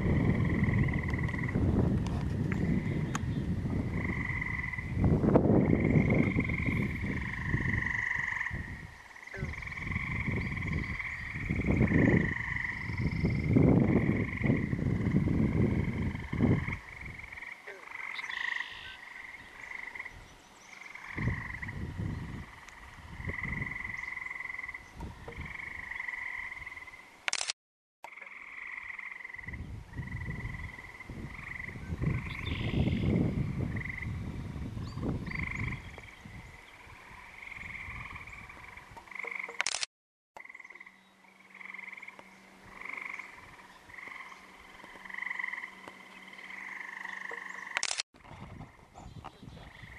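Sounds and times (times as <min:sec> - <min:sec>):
bullfrogs croaking: 0:00.0 - 0:27.4, 0:28.1 - 0:39.8, 0:40.4 - 0:49.9.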